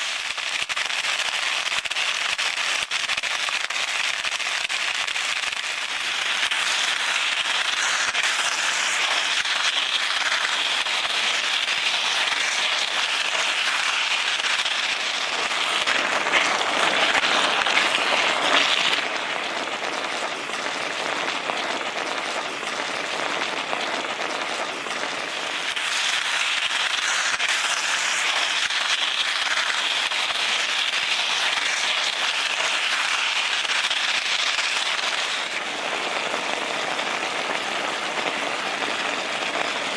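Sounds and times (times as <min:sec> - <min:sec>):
food sizzling in a hot pan: 0:00.0 - 0:39.9.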